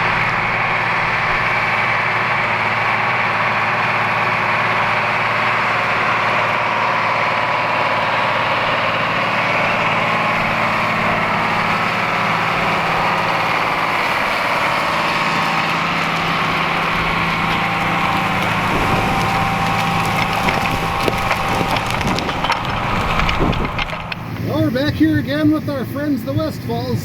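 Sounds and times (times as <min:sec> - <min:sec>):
crackles: 0:00.0 - 0:25.7
high engine whine: 0:00.0 - 0:27.0
tractor diesel engine running: 0:00.0 - 0:27.0.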